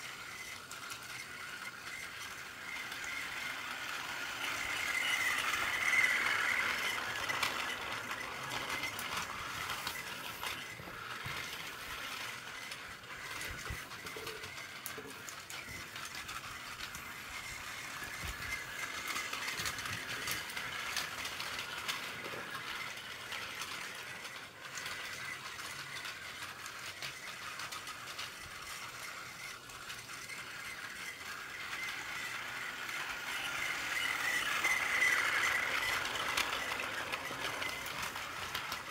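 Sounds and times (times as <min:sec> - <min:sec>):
toy train motor whir: 0:00.0 - 0:38.9
toy train wheels rattling on track: 0:00.0 - 0:38.9.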